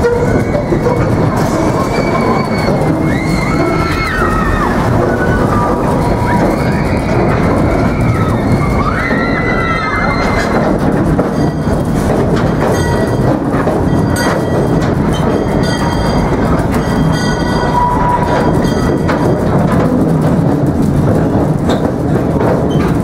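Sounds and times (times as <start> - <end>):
sharp clicks and knocks: 0.0 - 23.0
steam train rumbling: 0.0 - 23.0
wheels squealing: 0.0 - 23.0.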